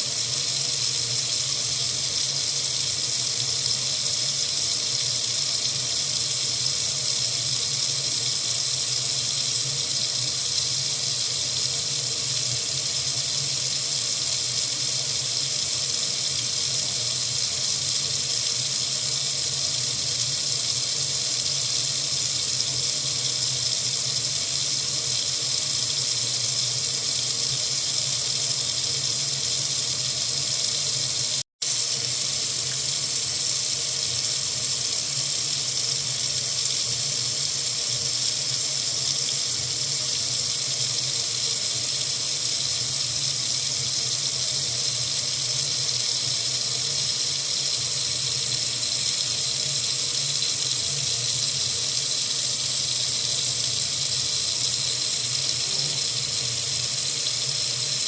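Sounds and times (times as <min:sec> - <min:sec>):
faucet running into sink: 0:00.0 - 0:58.0.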